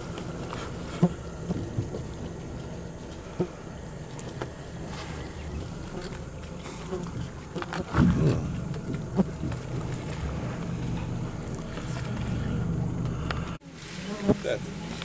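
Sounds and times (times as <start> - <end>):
boat motor running: 0.0 - 13.6.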